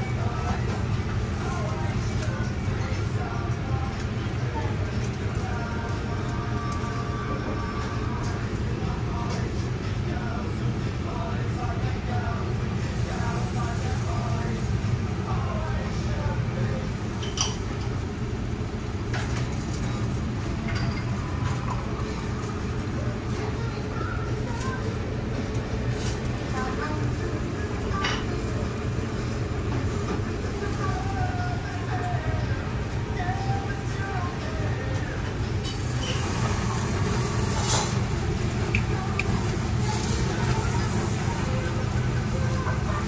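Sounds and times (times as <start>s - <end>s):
air extraction hum: 0.0s - 43.0s
patty sizzling on a grill: 0.0s - 43.0s.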